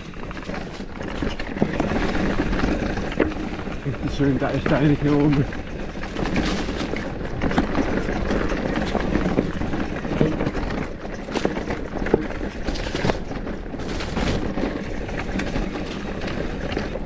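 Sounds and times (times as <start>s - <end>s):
bike rattling: 0.0s - 17.0s
bike tyres crunching over rock: 0.0s - 17.0s.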